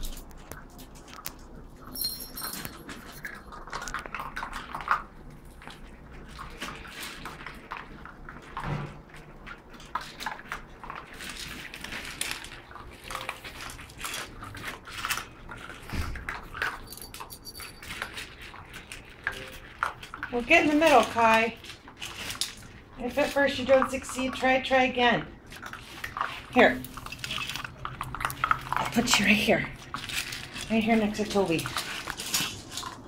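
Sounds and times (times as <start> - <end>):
puppies crunching kibble: 0.0 - 33.0.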